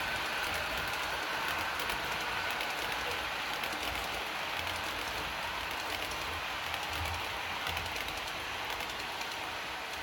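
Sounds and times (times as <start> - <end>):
model train wheels hissing on rail: 0.0 - 10.0.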